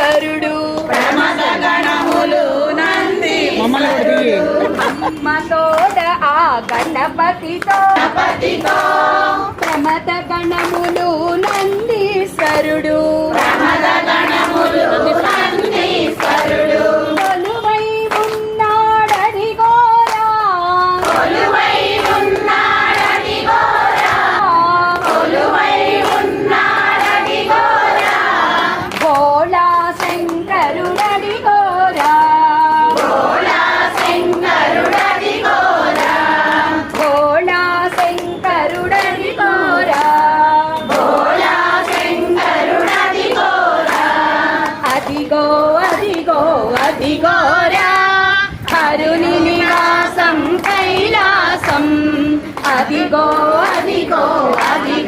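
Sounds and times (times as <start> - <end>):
group singing devotional song: 0.0 - 55.0
hand clapping: 0.0 - 55.0.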